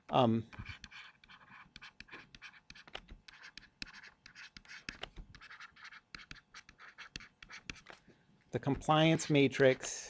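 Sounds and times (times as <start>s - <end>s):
stylus scratching on tablet screen: 0.0s - 8.0s, 8.6s - 10.0s.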